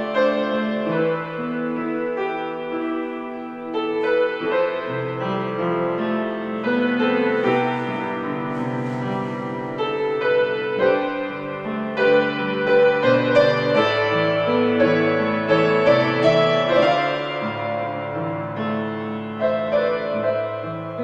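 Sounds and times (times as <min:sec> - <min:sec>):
slow solo piano piece: 0:00.0 - 0:21.0.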